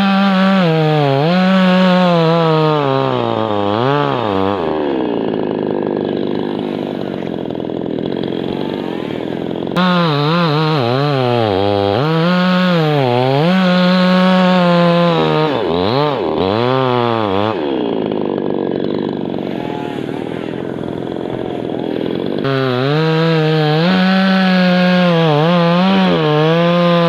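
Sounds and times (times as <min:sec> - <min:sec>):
chainsaw running at high revs: 0:00.0 - 0:27.0.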